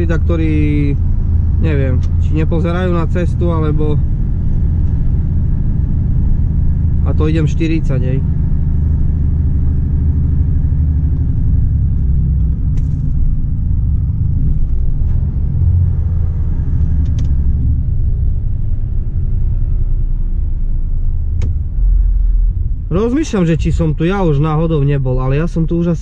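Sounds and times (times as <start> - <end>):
road noise: 0.0 - 26.0
truck diesel engine droning: 0.0 - 26.0.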